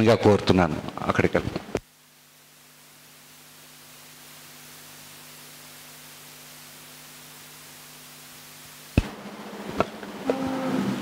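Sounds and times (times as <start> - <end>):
electrical hiss: 0.0 - 11.0
low mains hum: 0.0 - 11.0.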